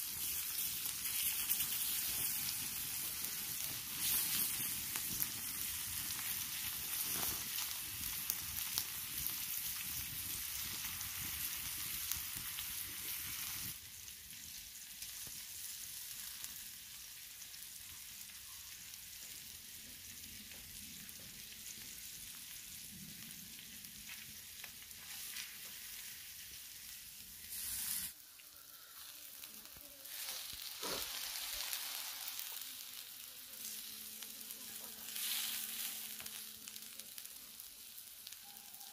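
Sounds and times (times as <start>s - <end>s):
meat sizzling on hot stone: 0.0s - 38.9s.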